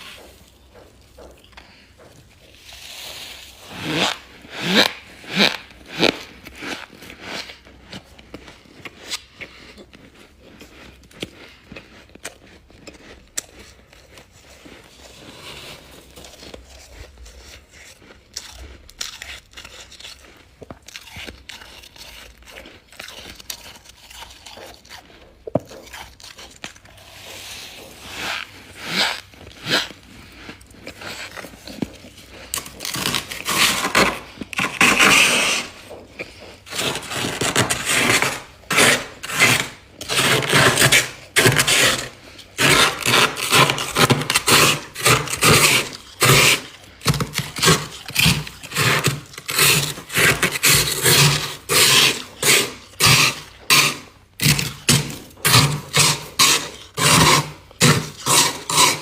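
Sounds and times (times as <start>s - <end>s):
frost being chewed crunching: 0.0s - 59.0s.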